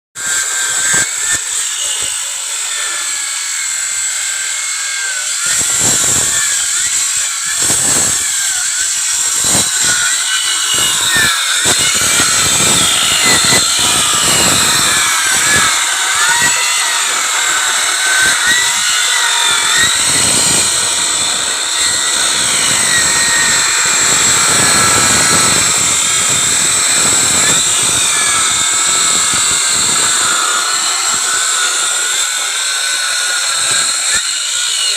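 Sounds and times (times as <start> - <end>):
power tool cutting wood: 0.2 - 34.9.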